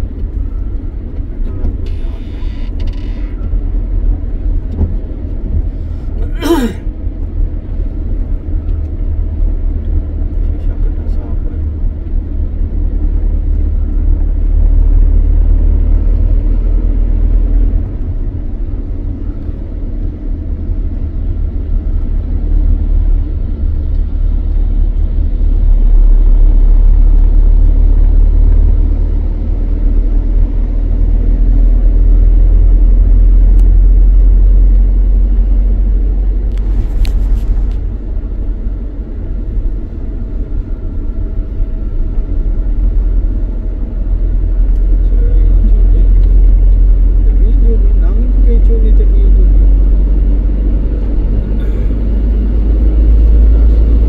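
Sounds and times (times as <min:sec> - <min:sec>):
car engine and tyres rumbling: 0:00.0 - 0:54.0
road noise hiss: 0:00.0 - 0:54.0.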